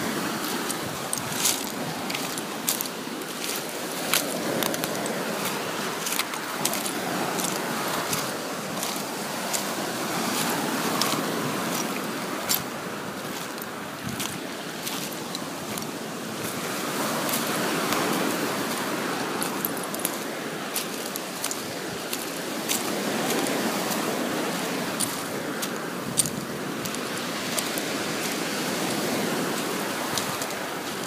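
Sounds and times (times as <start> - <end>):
surf washing on a beach: 0.0 - 31.0.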